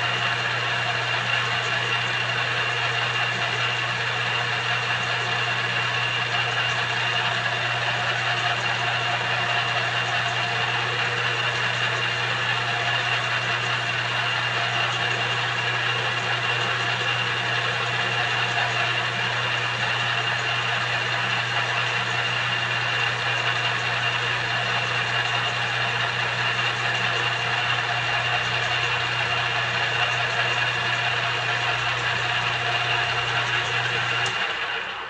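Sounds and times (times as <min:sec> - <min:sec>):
high-pitched drive whine: 0:00.0 - 0:35.0
lathe motor hum: 0:00.0 - 0:35.0.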